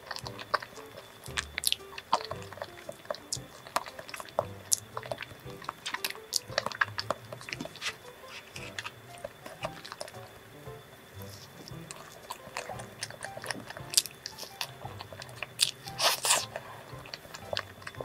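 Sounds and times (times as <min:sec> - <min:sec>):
wet chewing and lip smacks: 0:00.0 - 0:10.3, 0:11.6 - 0:18.0
soft background music: 0:00.0 - 0:18.0.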